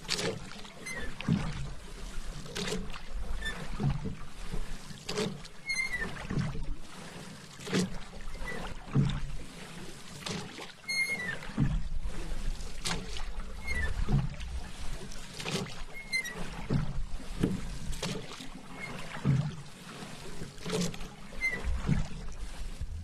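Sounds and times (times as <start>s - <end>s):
paddle splashing in water: 0.0s - 23.0s
water dripping from paddle: 0.0s - 23.0s.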